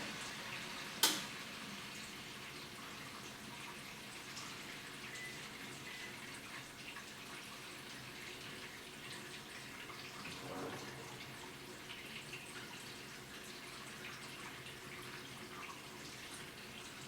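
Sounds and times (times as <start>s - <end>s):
washing machine water splashing: 0.0s - 17.0s.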